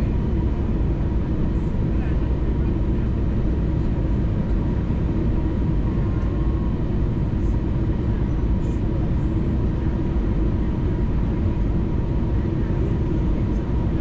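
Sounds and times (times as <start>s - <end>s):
faint steady whine: 0.0s - 14.0s
jet engines humming: 0.0s - 14.0s.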